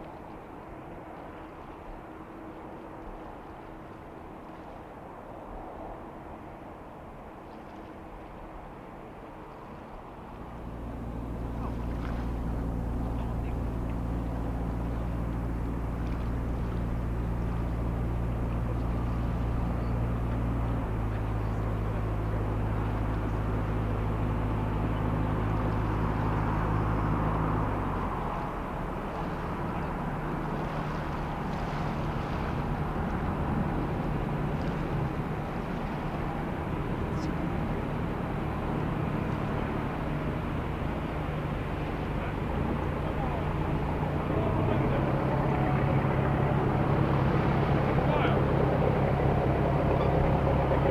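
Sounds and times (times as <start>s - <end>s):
low engine hum: 0.0s - 50.9s.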